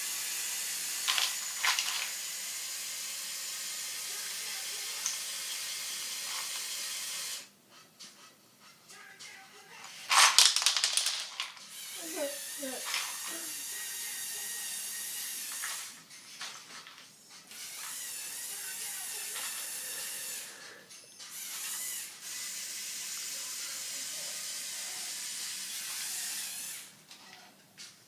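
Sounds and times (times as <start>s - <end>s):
small electric motors whirring: 0.0s - 7.5s, 10.9s - 16.0s, 17.5s - 27.4s.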